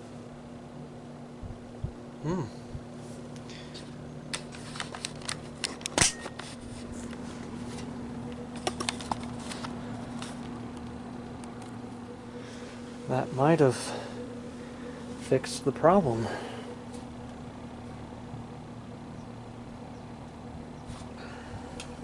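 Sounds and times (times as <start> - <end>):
fan motor humming: 0.0 - 22.0.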